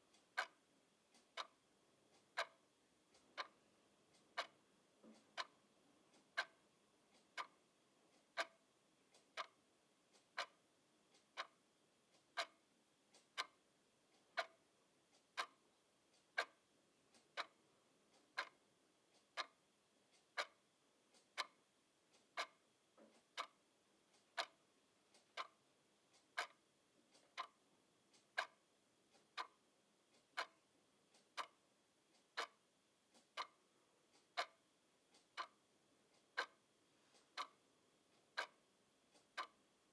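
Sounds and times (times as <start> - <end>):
clock ticking: 0.0 - 39.8.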